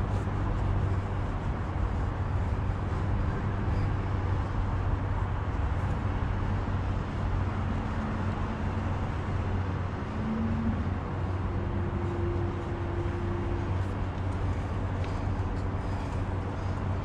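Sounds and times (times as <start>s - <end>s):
outdoor traffic noise: 0.0s - 17.0s
vehicle engine running: 0.0s - 17.0s.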